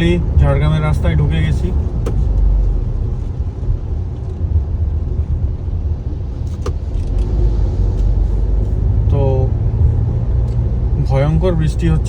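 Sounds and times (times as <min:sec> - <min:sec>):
road and engine noise in car cabin: 0:00.0 - 0:12.0.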